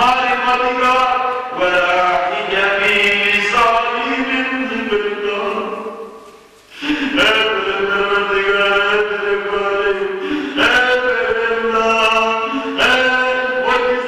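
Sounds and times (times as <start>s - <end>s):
men chanting a lament: 0.0s - 6.0s, 6.8s - 14.0s.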